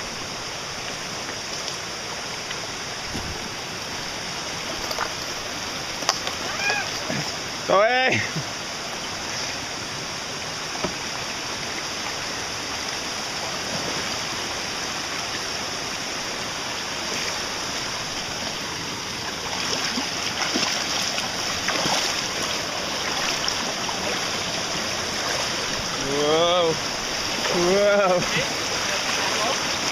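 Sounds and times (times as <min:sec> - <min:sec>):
river water rushing: 0:00.0 - 0:29.9
water splashes: 0:00.0 - 0:29.9.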